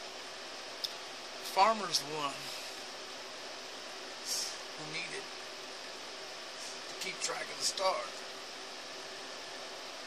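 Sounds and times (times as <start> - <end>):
room noise hiss: 0.0 - 10.0.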